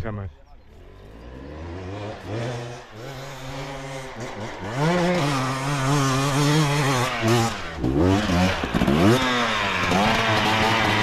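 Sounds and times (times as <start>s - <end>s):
motorcycle engine revving hard: 0.7s - 11.0s.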